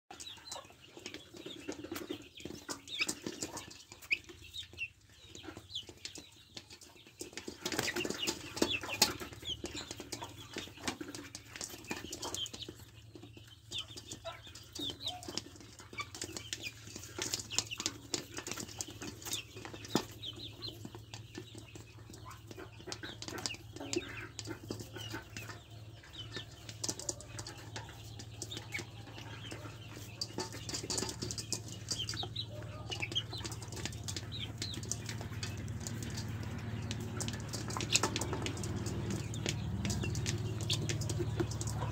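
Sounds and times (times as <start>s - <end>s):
chicks chirping and peeping: 0.1s - 41.9s
chicks pecking metal bowl: 0.1s - 41.9s.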